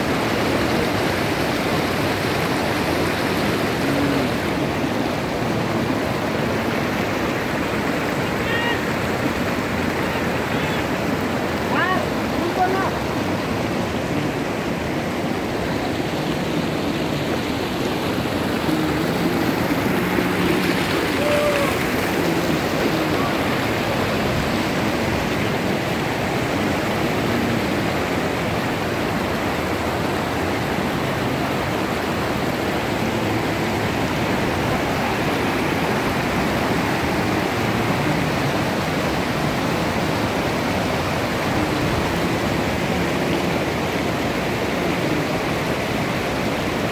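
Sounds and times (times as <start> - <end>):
stream rushing over stones: 0.0 - 46.9.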